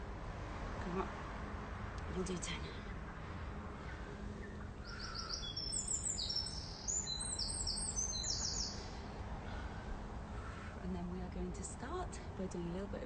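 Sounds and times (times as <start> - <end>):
low background rumble: 0.0 - 13.0
songbird singing: 1.8 - 13.0.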